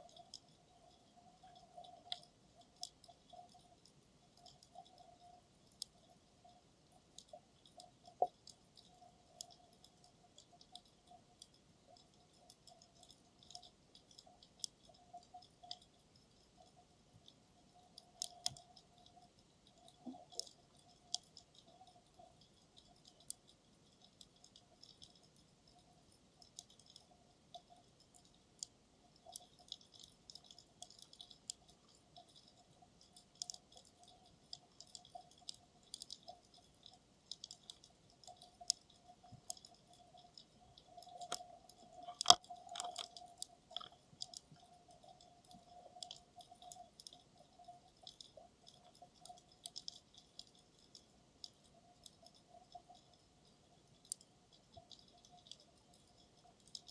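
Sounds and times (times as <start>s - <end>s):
underwater clicks crackling: 0.0s - 56.9s.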